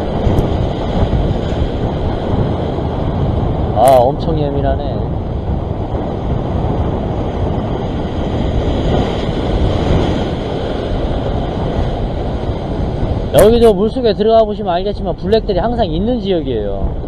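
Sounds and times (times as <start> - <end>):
strong wind on microphone: 0.0 - 17.0
waves washing against rocks: 0.0 - 17.0.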